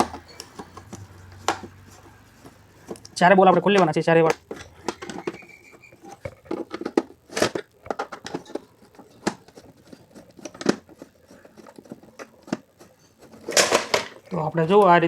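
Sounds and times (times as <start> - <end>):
clock case clicking and scraping: 0.0 - 15.0.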